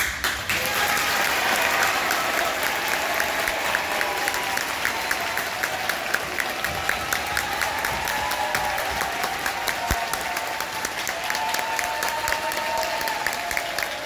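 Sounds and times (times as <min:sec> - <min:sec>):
audience clapping: 0:00.0 - 0:14.0.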